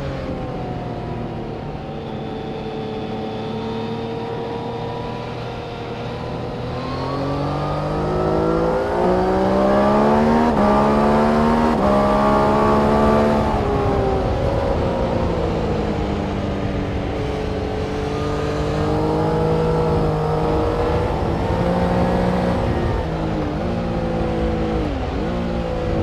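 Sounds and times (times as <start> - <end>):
race car engine: 0.0 - 26.0.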